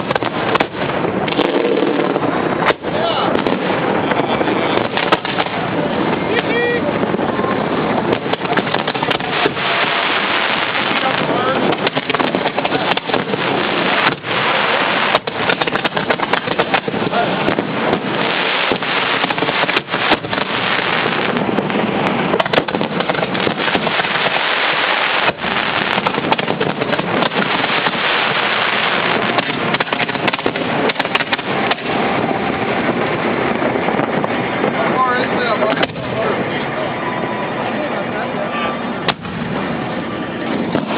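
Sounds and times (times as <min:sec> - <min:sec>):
fireworks bursting and crackling: 0:00.0 - 0:40.9.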